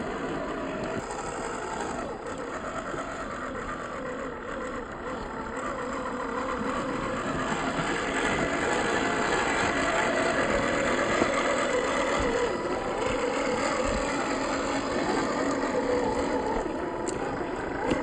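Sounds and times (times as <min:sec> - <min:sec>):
rough running gear noise: 0:00.0 - 0:18.0
toy car electric motor whine: 0:00.0 - 0:18.0.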